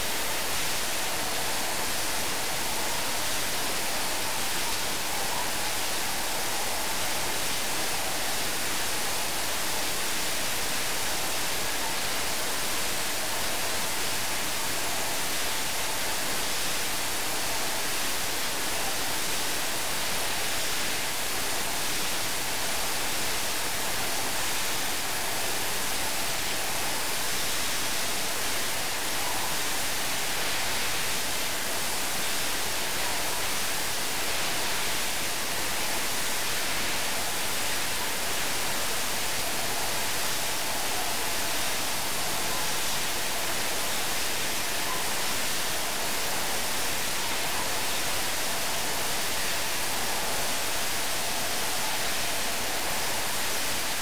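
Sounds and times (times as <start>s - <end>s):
steady static hiss: 0.0s - 54.0s.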